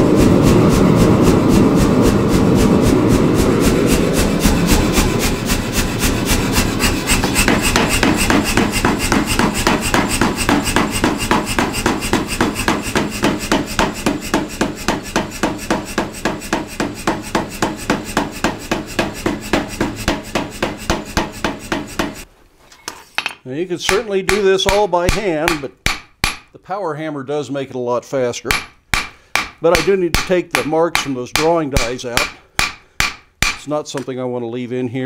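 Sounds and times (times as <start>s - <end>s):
power hammer striking hot steel: 0.0s - 22.3s, 23.8s - 26.5s, 28.5s - 33.7s.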